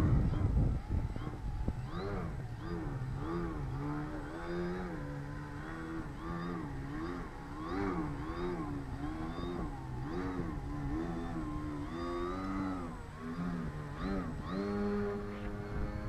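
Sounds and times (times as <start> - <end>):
model plane motor and propeller: 0.0 - 16.0.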